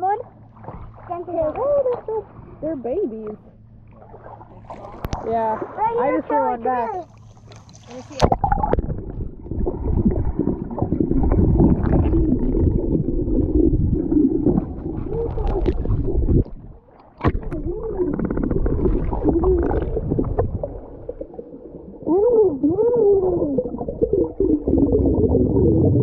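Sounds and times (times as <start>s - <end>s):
muffled underwater water rumble: 0.0s - 26.0s.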